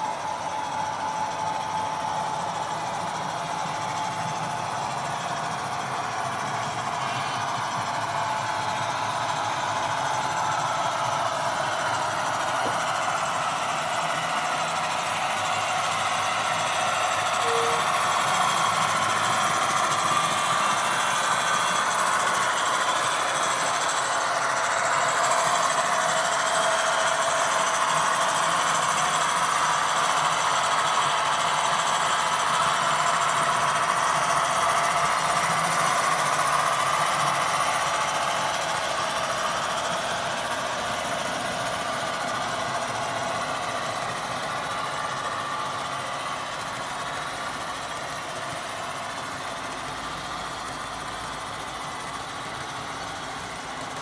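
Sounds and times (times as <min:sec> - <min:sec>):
model train running: 0:00.0 - 0:54.0.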